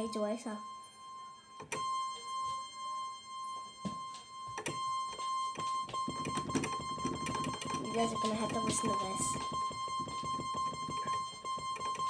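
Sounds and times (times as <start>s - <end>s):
high electronic piano-like tone: 0.0s - 12.0s.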